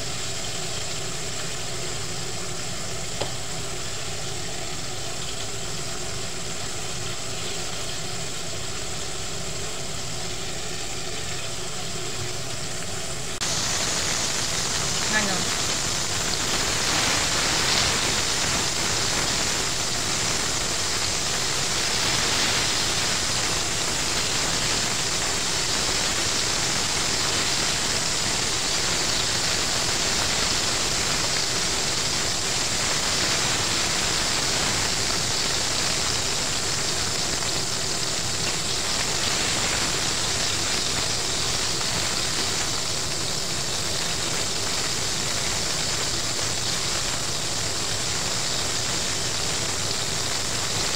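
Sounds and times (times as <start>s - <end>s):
chicken deep-frying in oil: 0.0s - 50.9s.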